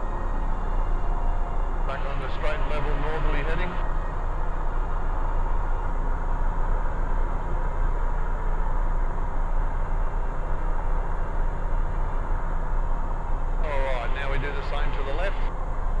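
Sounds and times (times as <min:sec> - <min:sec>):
aircraft engine and propeller droning: 0:00.0 - 0:16.0.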